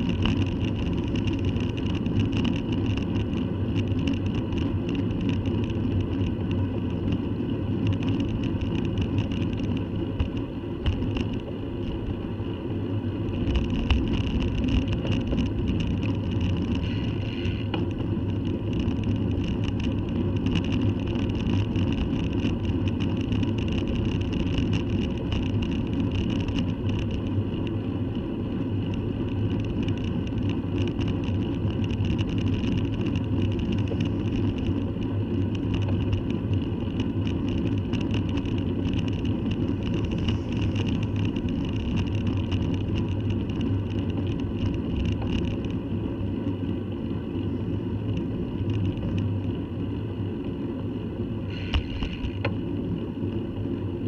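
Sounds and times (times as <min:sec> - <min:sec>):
bicycle rolling noise: 0:00.0 - 0:54.0
wind rumble: 0:00.0 - 0:54.0.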